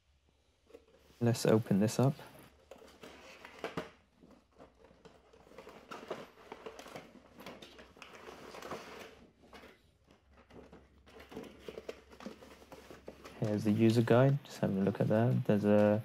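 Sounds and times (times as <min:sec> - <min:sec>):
cardboard and plastic rustling: 0:00.6 - 0:16.0.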